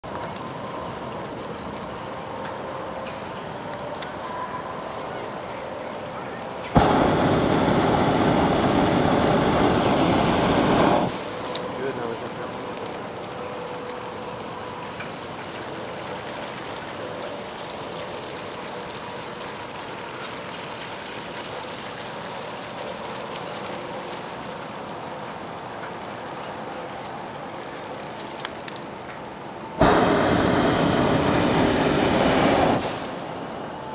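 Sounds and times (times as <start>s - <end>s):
insect chorus hissing: 0.0s - 33.9s.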